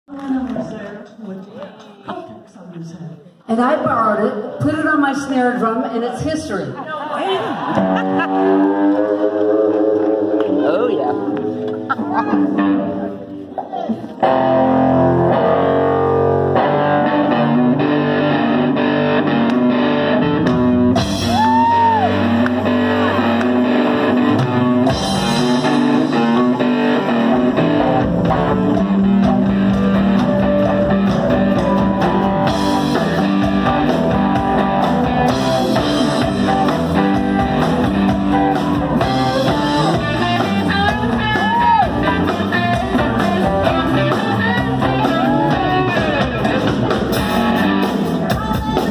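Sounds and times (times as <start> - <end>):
rock band playing: 3.6 - 48.9.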